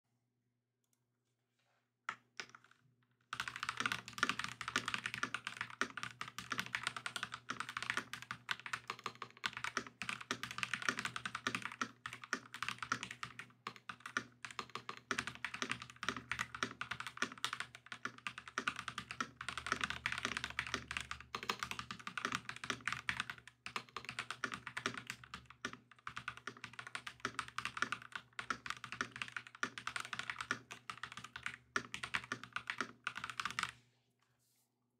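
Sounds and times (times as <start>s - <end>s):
mechanical keyboard typing: 3.4s - 33.8s.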